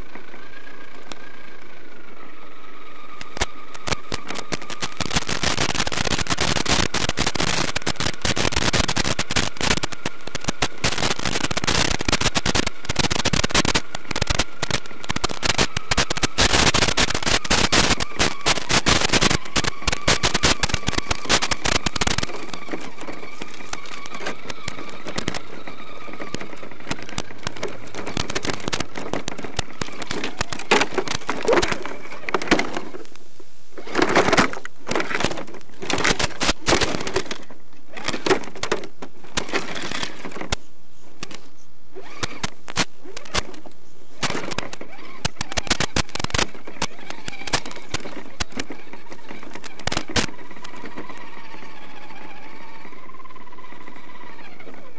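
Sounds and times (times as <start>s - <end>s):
electric motor whine: 0.0s - 33.1s, 41.2s - 54.9s
crackling radio static: 0.0s - 54.9s.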